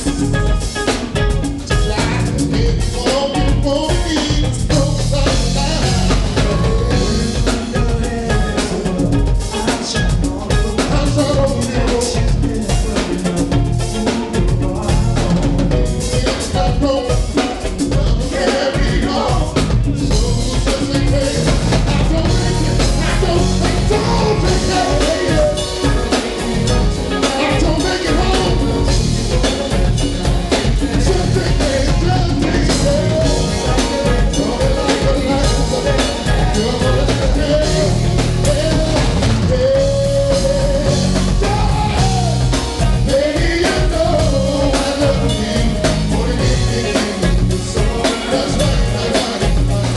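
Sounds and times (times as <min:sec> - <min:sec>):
drum kit: 0:00.0 - 0:49.9
live band playing: 0:00.0 - 0:49.9.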